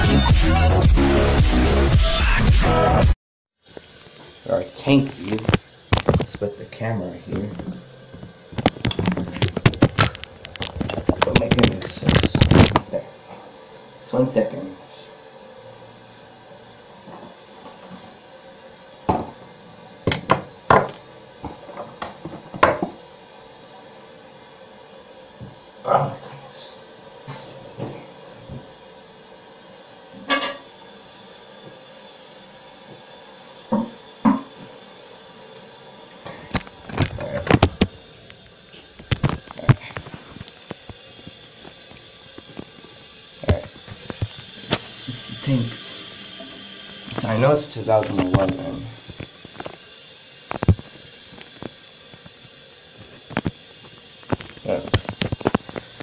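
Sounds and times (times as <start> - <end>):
faint hiss: 3.6 - 10.1, 10.7 - 56.0.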